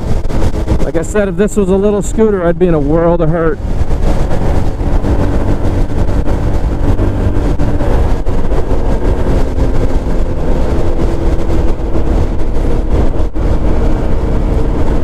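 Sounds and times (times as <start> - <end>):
road and wind rush: 0.0 - 15.0.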